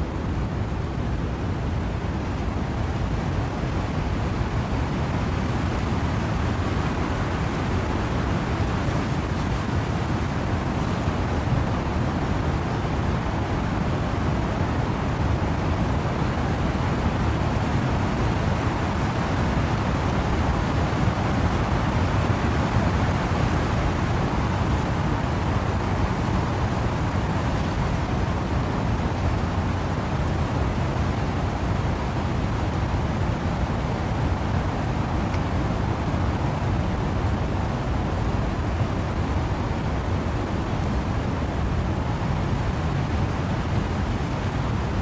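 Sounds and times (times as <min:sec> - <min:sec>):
rain: 0:00.0 - 0:45.0
wind: 0:00.0 - 0:45.0.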